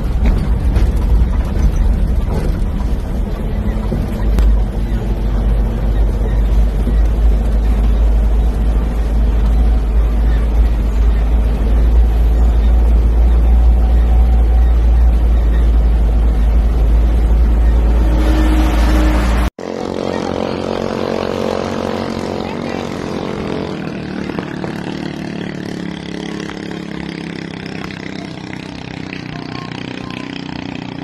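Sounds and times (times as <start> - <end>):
small boat engines buzzing: 0.0 - 31.0
vehicle engine and road rumble: 0.0 - 31.0.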